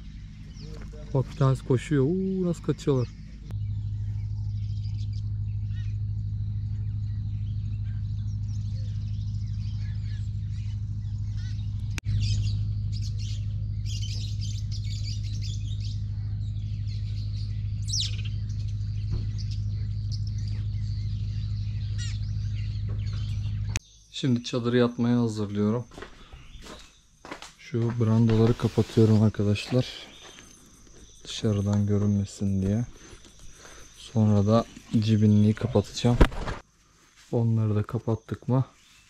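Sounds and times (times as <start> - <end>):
birds chirping: 0.0 - 39.0
steady low hum: 0.0 - 39.0.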